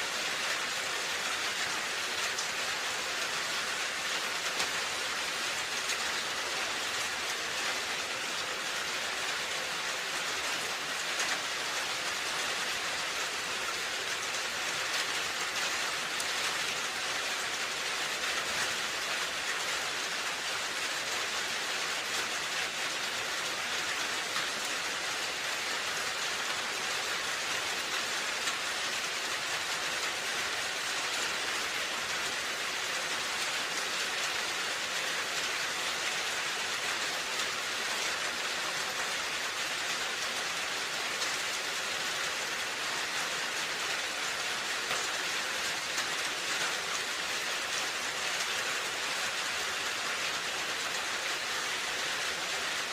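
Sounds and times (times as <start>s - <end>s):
rain on a roof: 0.0s - 52.9s.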